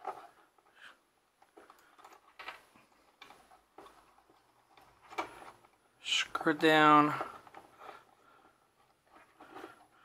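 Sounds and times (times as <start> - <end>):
small clicks and scrapes: 0.0 - 10.0.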